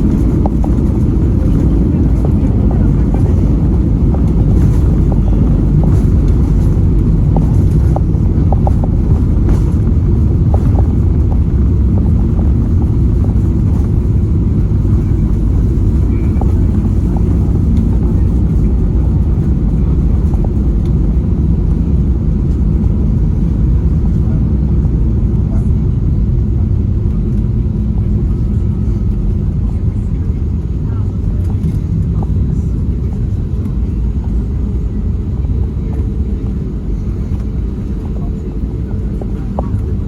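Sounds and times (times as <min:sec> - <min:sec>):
aircraft cabin engine rumble: 0:00.0 - 0:40.0.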